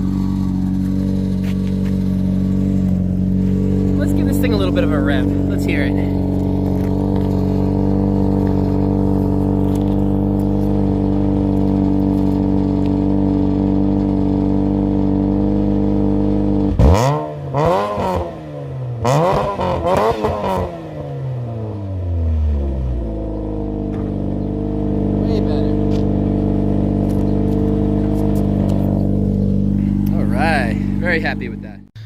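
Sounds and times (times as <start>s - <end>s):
car engine revving: 0.0s - 31.8s
car engine idling: 0.0s - 32.0s.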